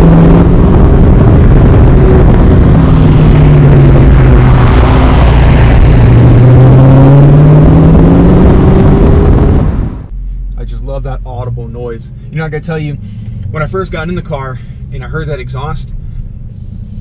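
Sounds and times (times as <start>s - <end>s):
car exhaust at low revs: 0.0s - 17.0s.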